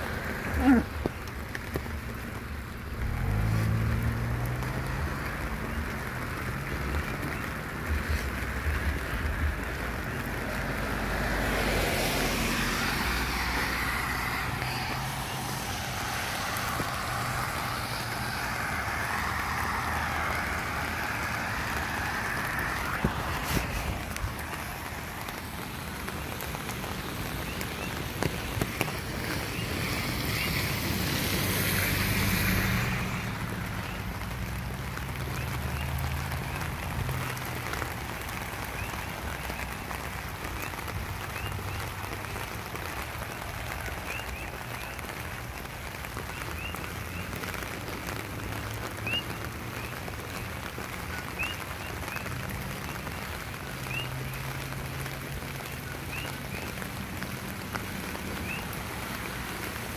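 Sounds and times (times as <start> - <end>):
steady rain: 0.0 - 59.9
vehicle passing on wet road: 0.0 - 59.9.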